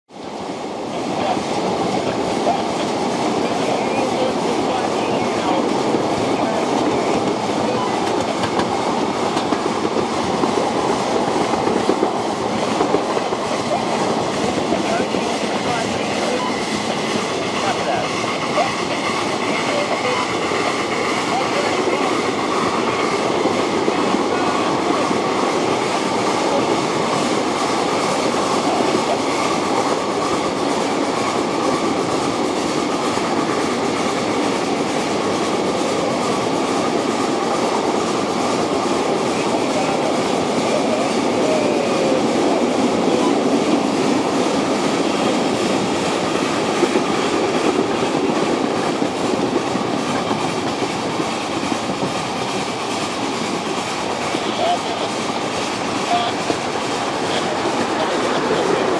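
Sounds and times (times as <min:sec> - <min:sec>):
steam locomotive working: 0:00.1 - 0:58.9
steel wheels clicking on rails: 0:00.2 - 0:58.9.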